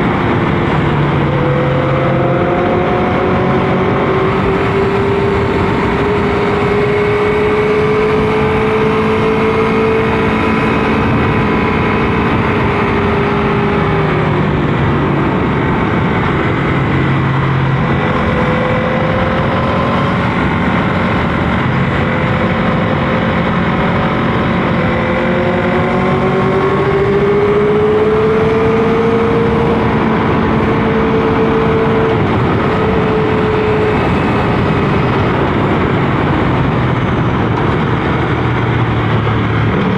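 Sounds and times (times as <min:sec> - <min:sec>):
wind rush: 0:00.0 - 0:39.9.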